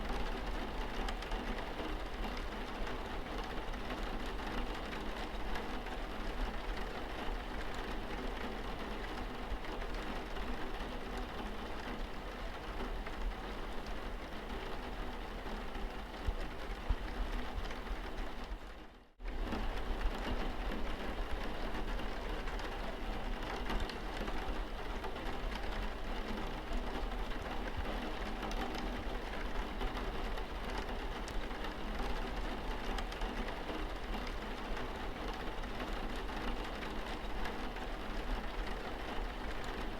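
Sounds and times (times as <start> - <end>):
rain pattering on windscreen: 0.1 - 39.9.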